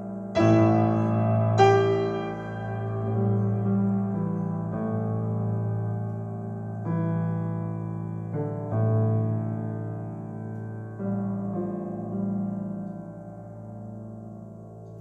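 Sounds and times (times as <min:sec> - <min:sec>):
solo piano chords ringing: 0:00.0 - 0:15.0.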